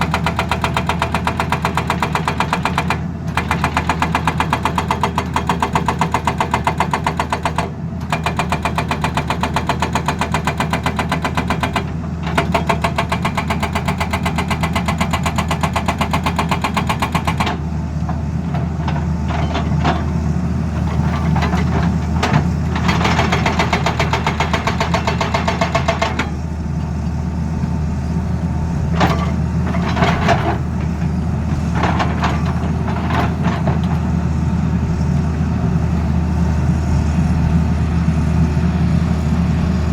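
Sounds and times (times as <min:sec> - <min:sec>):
hydraulic breaker hammering: 0:00.0 - 0:26.7, 0:28.7 - 0:34.0
excavator engine running: 0:00.0 - 0:39.9.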